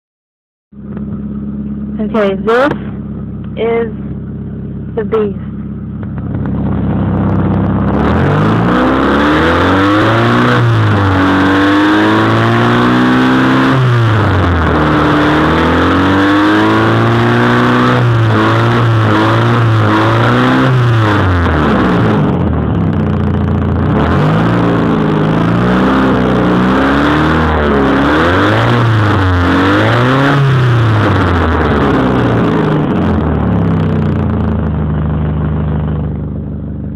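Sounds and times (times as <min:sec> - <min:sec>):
car engine revving: 0:00.8 - 0:36.9.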